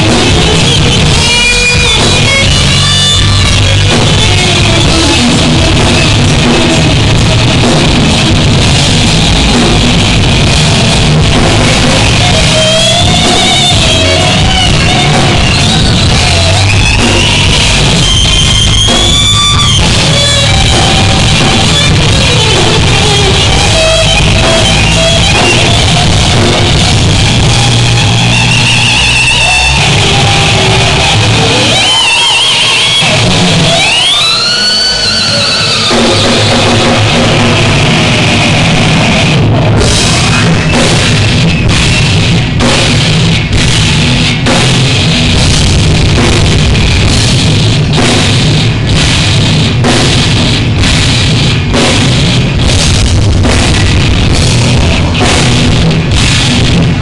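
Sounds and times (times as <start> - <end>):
distorted lead guitar: 0.0 - 57.0
heavy metal band playing: 0.0 - 57.0.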